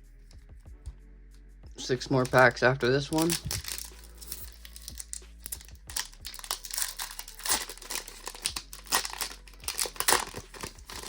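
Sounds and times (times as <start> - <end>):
foil wrapper crinkling and tearing: 1.8 - 11.0.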